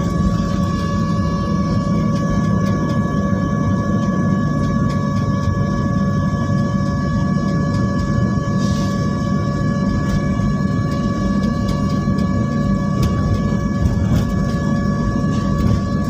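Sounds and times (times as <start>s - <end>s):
jet engines rumbling: 0.0s - 16.0s
steady multi-tone whine: 0.0s - 16.0s.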